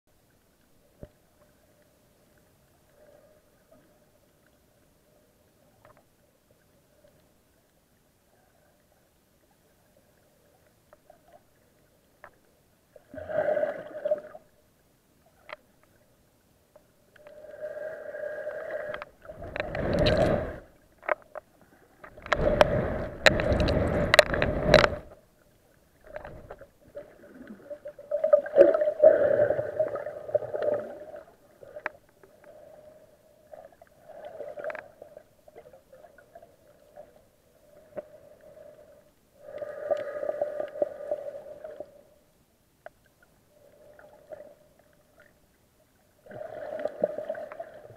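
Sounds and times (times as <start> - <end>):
underwater swishing and gurgling: 0.2 - 47.9.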